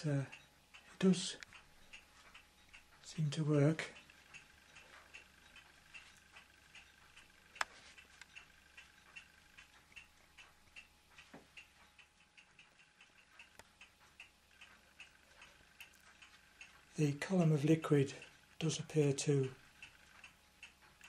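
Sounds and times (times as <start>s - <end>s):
faint steady ticking: 0.0s - 21.0s.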